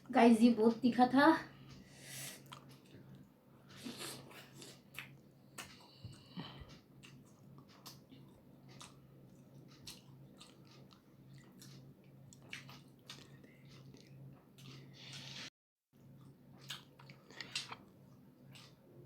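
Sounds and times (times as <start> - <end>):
faint low hum: 0.0 - 19.0
person chewing: 2.2 - 15.5, 16.2 - 19.0.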